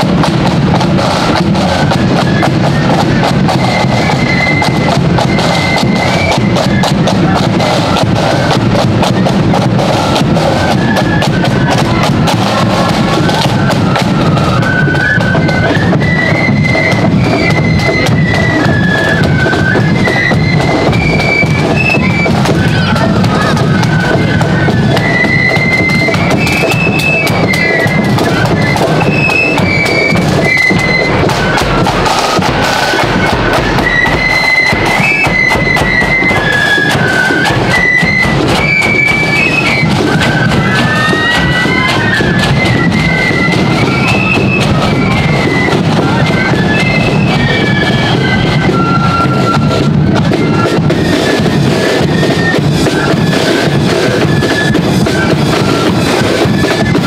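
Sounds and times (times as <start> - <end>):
flutes playing a tune: 0.0 - 57.0
side drums and bass drum: 0.0 - 57.0.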